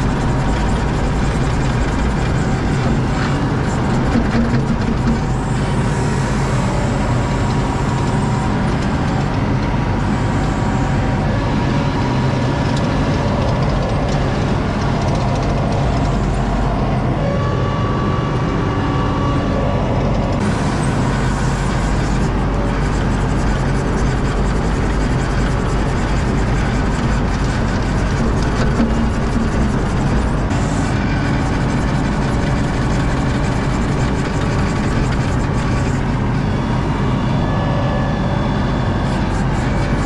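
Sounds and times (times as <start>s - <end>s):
diesel engine running: 0.0s - 40.0s
faint tonal drone: 0.0s - 40.0s.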